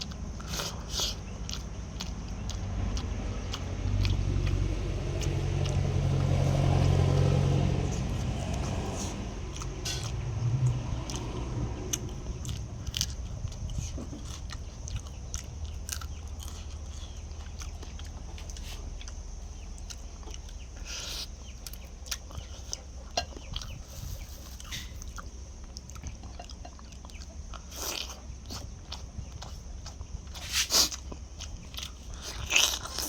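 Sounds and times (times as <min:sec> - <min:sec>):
chicken being bitten and chewed: 0:00.0 - 0:33.0
steady low hum: 0:00.0 - 0:33.0.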